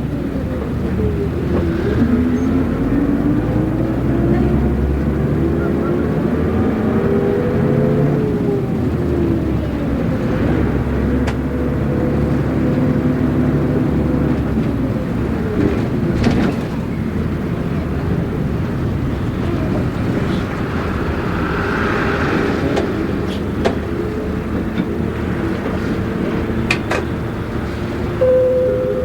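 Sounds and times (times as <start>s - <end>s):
bus diesel engine: 0.0s - 29.0s.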